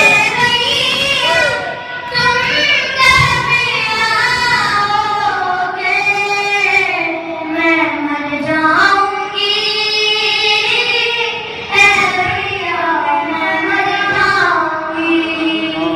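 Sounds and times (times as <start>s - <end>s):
boy singing into a microphone: 0.0s - 15.9s.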